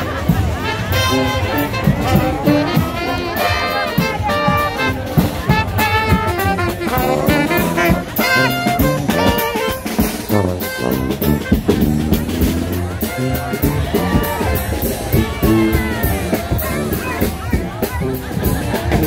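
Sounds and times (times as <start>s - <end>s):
jazz brass band music: 0.0s - 19.0s.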